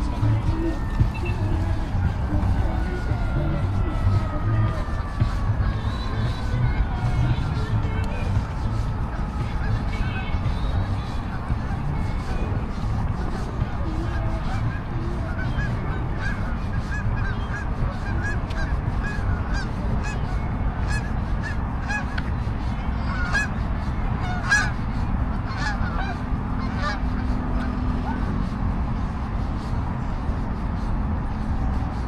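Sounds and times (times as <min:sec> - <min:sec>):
geese honking: 0:00.0 - 0:28.6
steady low rumble: 0:00.0 - 0:32.0.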